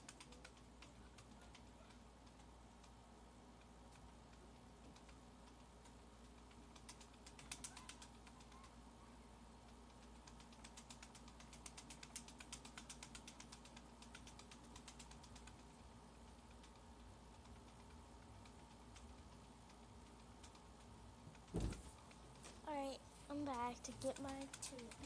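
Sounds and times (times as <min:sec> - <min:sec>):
computer keyboard typing: 0:00.0 - 0:03.0, 0:03.6 - 0:08.8, 0:09.5 - 0:22.6, 0:23.4 - 0:25.0.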